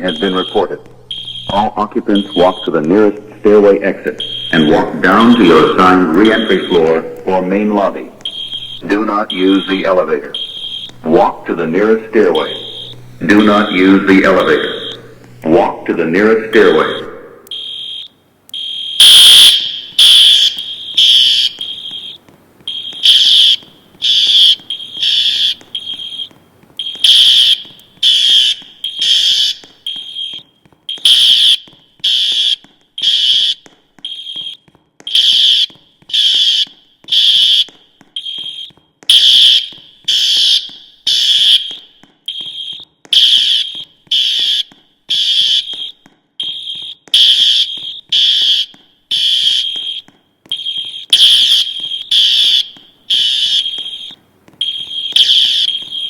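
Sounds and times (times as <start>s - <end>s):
fire alarm beeps: 0.0s - 56.0s.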